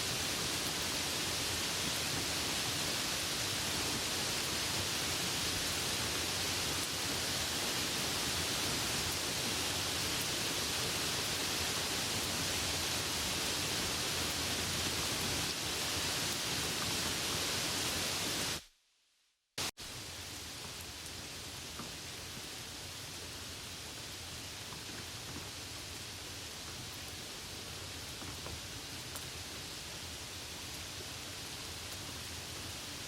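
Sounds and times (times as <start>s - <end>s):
soft rain hiss: 0.0s - 18.8s, 19.6s - 33.0s.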